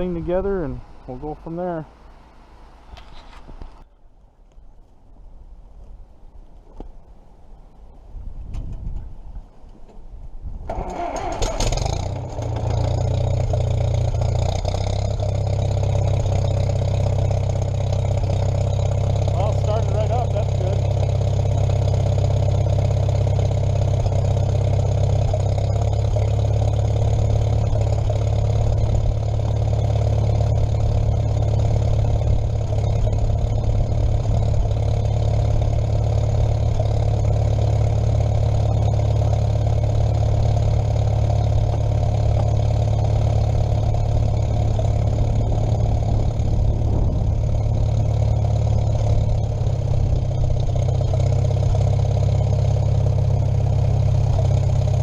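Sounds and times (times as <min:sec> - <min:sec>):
engine idling: 0:10.7 - 0:55.0.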